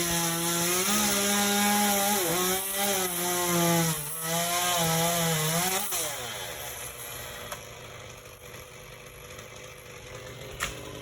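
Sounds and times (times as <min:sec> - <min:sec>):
chainsaw revving then idling: 0:00.0 - 0:11.0.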